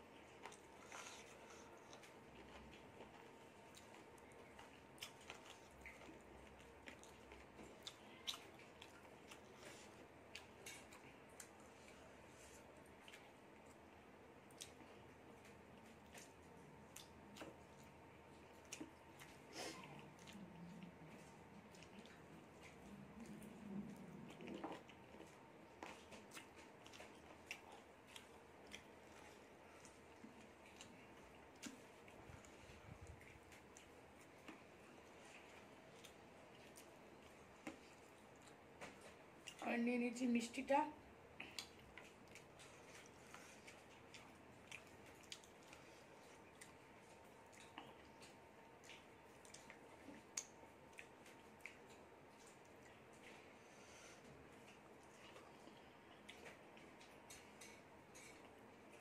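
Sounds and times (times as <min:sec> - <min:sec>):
wet chewing clicks and smacks: 0:00.0 - 0:12.0, 0:12.6 - 0:39.6, 0:41.2 - 0:53.5, 0:54.2 - 0:59.0.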